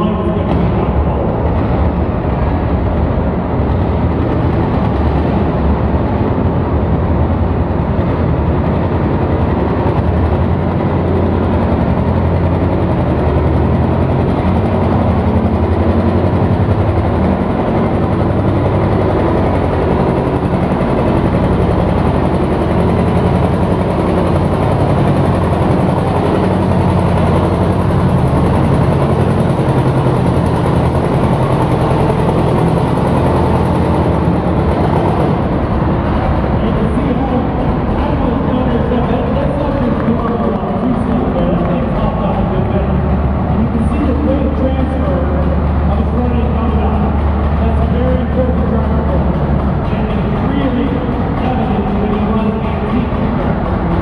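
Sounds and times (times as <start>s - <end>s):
tractor engine droning: 0.0s - 54.0s.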